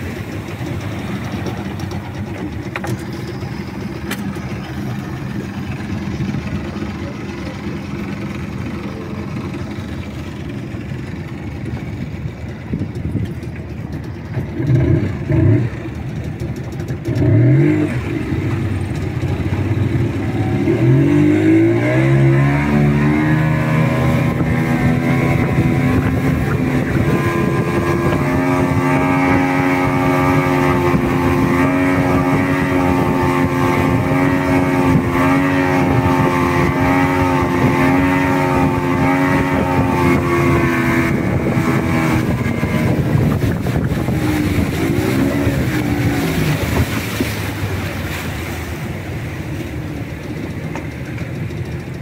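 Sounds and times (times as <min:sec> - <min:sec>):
motorboat engine revving: 0:00.0 - 0:52.0.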